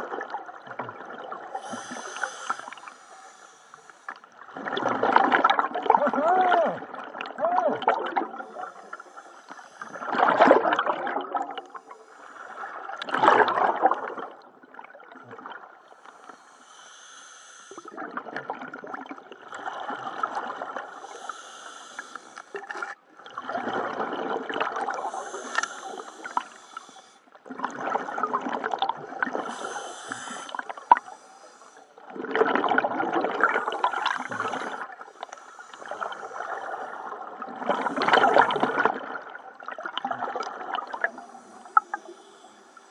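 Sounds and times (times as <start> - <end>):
exhaled bubbles gurgling underwater: 0.0 - 16.6, 17.7 - 42.9.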